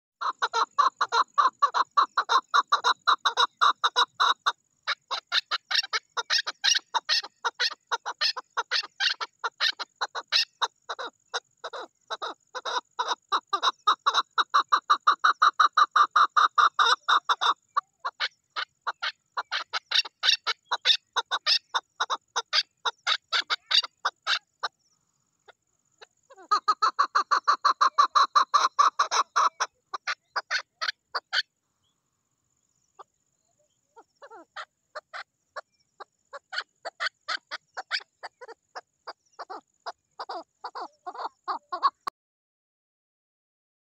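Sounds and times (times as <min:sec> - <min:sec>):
partridge calling: 0:00.2 - 0:32.0, 0:32.6 - 0:42.1.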